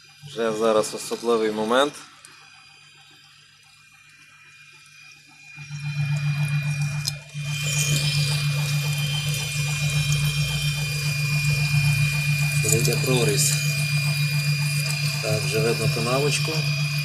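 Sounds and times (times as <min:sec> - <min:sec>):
lathe hum with high whine: 0:00.0 - 0:17.0.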